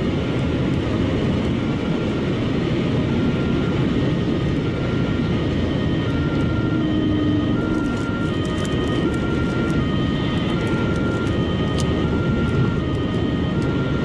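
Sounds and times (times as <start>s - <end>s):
car cabin road and wind noise: 0.0s - 14.0s.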